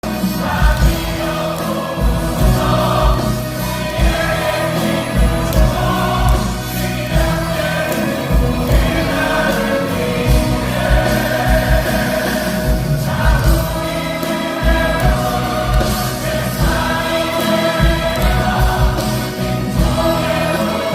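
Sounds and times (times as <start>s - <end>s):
cast singing in chorus: 0.0s - 20.9s
orchestra playing: 0.0s - 20.9s
steady low drum beat: 0.0s - 20.9s.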